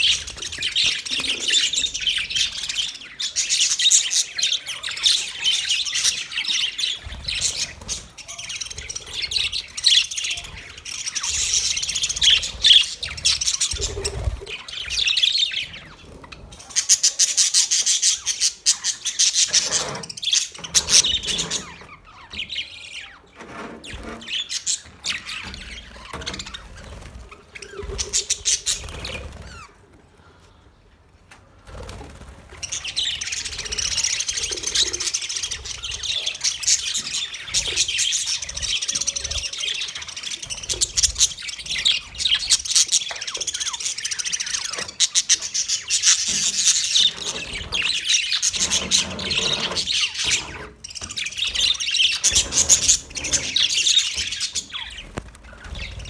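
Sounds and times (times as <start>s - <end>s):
flock of budgerigars chirping: 0.0s - 29.9s, 31.6s - 56.0s.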